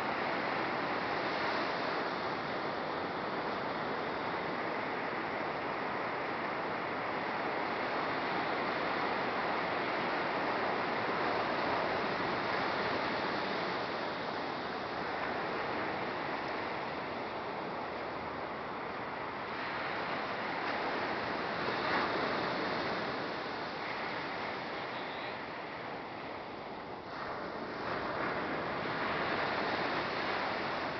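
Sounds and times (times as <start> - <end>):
ocean surf breaking on beach: 0.0 - 30.9.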